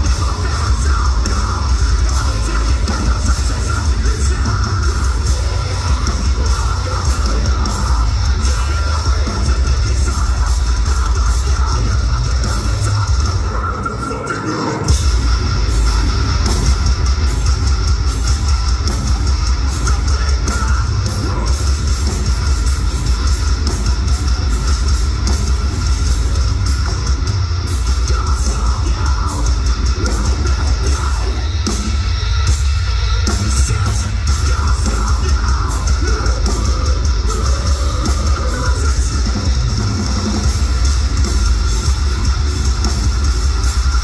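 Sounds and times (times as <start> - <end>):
distorted electric guitars: 0.0 - 44.0
fast hard drumming: 0.0 - 44.0
vocals: 0.0 - 44.0.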